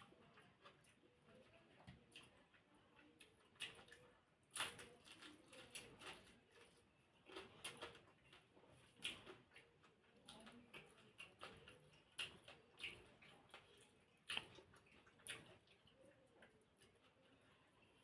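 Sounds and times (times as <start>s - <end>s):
chewing and mouth clicks: 0.0s - 18.0s.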